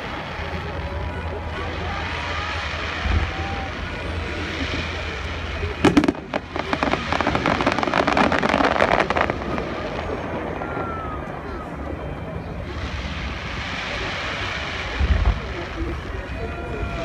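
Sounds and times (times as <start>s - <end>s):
crowd noise: 0.0s - 17.0s
fireworks bangs: 0.0s - 17.0s
fireworks crackling: 0.0s - 17.0s.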